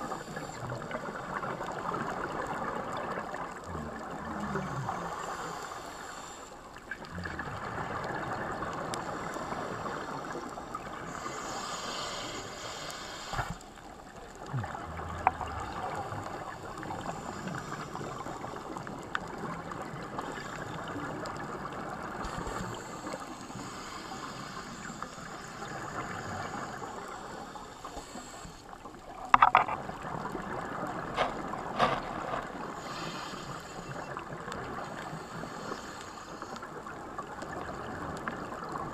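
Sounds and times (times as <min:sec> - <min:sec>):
muffled underwater hiss: 0:00.0 - 0:38.9.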